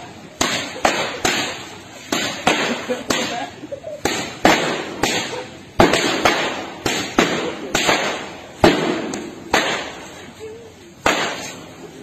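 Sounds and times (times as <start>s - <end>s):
whips cracking: 0.3s - 10.2s, 11.0s - 11.7s.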